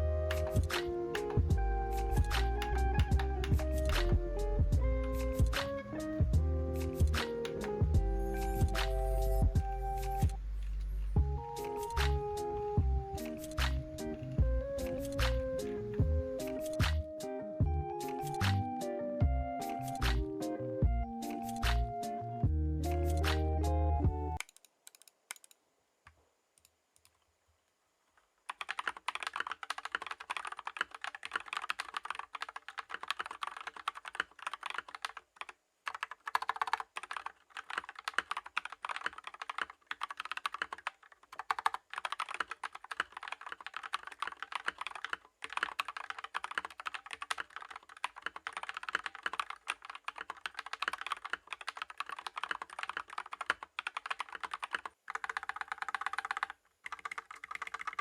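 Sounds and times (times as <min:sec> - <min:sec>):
mechanical keyboard typing: 0:00.2 - 0:06.1, 0:06.8 - 0:10.9, 0:11.5 - 0:17.0, 0:21.2 - 0:21.8, 0:24.4 - 0:25.6, 0:28.5 - 0:58.0.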